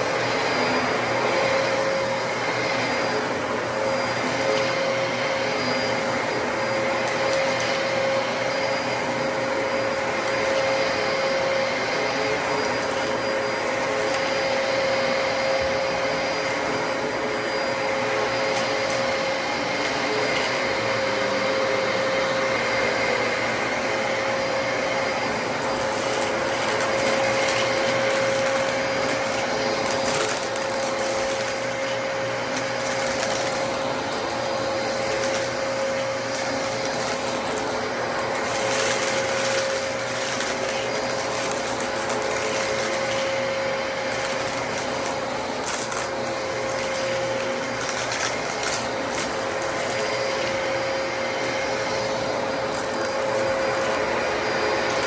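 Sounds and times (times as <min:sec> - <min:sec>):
upright vacuum cleaner running: 0:00.0 - 0:55.0.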